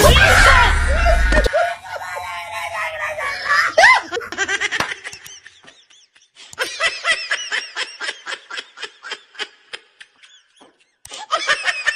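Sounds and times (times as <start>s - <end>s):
high-pitched laughter: 0.0s - 11.9s.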